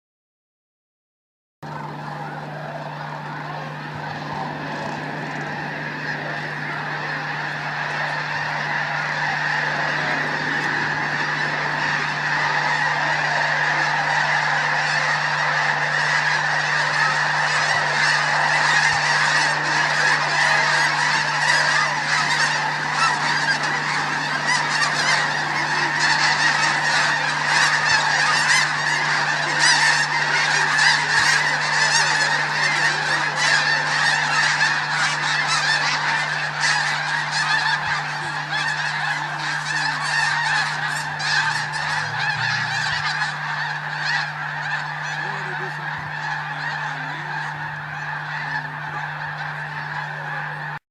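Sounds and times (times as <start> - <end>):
low steady hum: 1.6 - 50.8
snow geese honking: 1.7 - 50.8.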